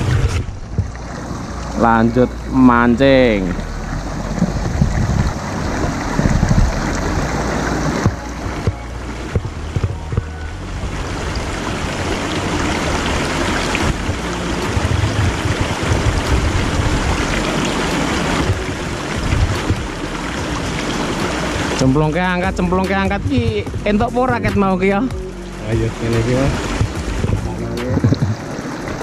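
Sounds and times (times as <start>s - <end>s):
river water running over rocks: 0.0s - 29.0s.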